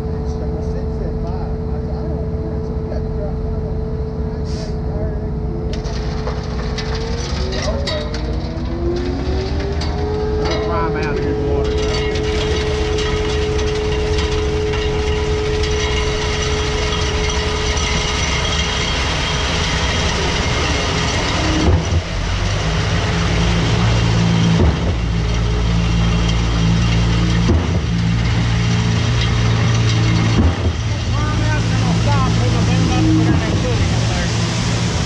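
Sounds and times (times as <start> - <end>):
diesel engine and pump running: 0.0 - 35.0.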